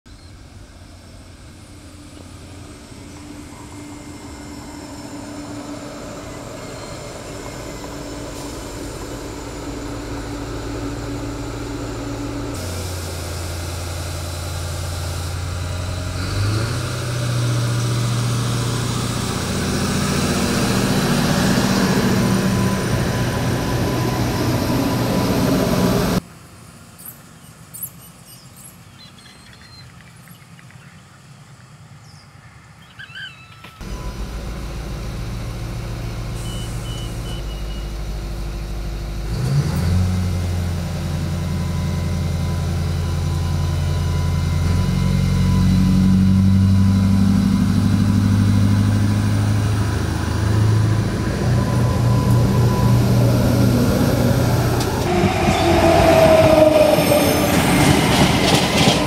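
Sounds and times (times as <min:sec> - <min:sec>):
diesel railcar engine hum: 0:00.1 - 0:59.0.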